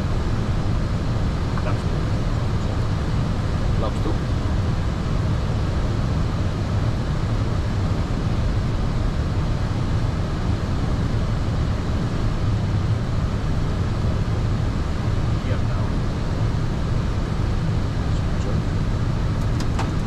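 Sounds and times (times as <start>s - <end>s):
aircraft cockpit airflow hum: 0.0s - 20.0s.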